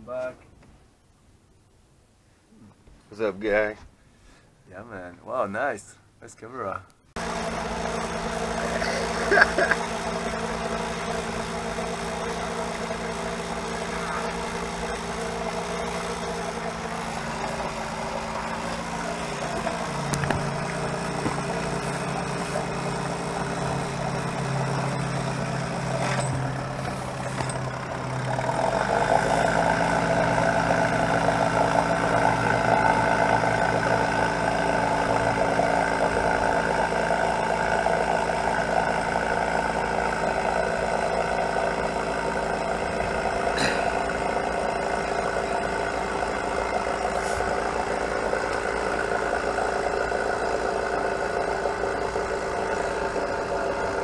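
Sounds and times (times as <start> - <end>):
boat engine idling: 7.2 - 54.0.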